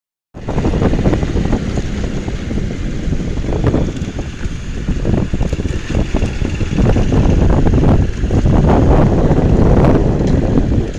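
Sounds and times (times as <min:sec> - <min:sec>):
wind buffeting microphone: 0:00.4 - 0:10.9.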